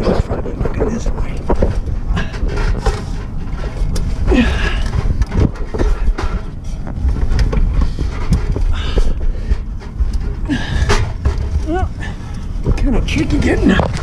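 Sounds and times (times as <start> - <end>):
man straining and breathing hard: 0.0 - 12.9
low rubbing rumble: 0.0 - 14.0.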